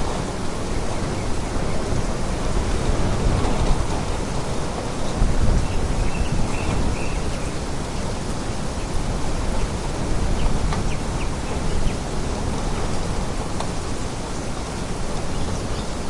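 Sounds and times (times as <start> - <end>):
storm wind rushing: 0.0 - 16.0.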